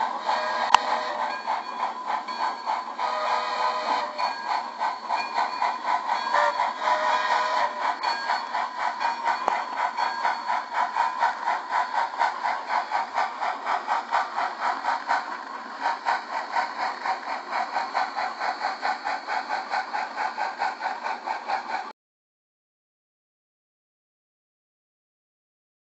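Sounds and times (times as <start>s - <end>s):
model steam locomotive chuffing: 0.0s - 21.9s.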